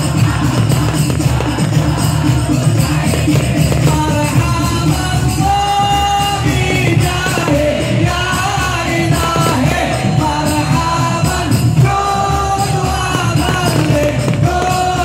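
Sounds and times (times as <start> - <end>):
amplified devotional singing: 0.0 - 15.0
frame drums beating: 0.0 - 15.0.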